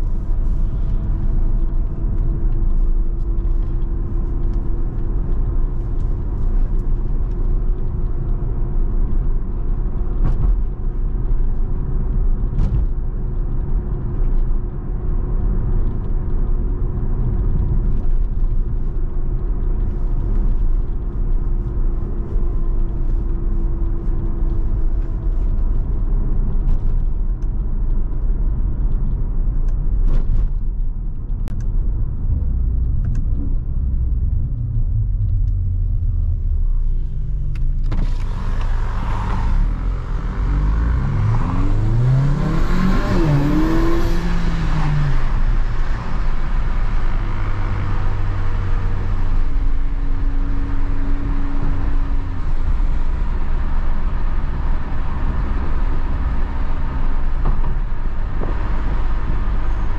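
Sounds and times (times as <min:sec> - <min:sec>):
car engine accelerating: 0:00.0 - 0:59.9
low road rumble: 0:00.0 - 0:59.9.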